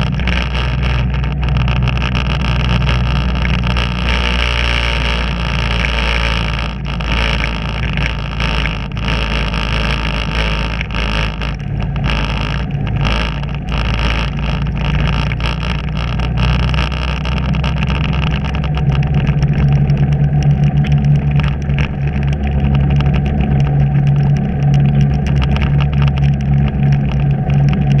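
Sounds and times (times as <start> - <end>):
vehicle engine running: 0.0 - 28.0
wind and road noise: 0.0 - 28.0.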